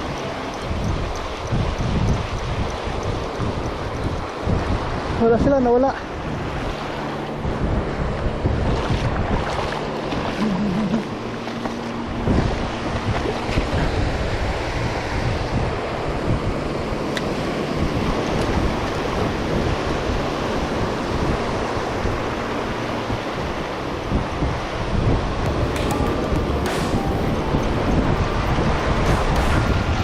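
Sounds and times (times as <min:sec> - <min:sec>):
surf washing on beach: 0:00.0 - 0:30.0
wind buffeting microphone: 0:00.0 - 0:30.0.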